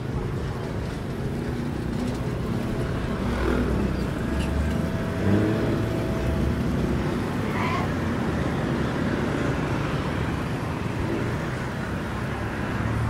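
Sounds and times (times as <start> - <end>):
motor scooters passing: 0.0 - 13.0.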